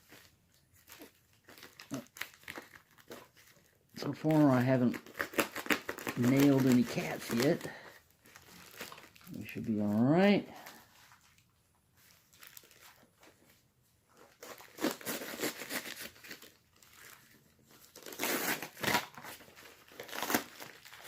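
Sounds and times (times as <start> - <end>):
packing material crinkling: 0.0 - 21.0.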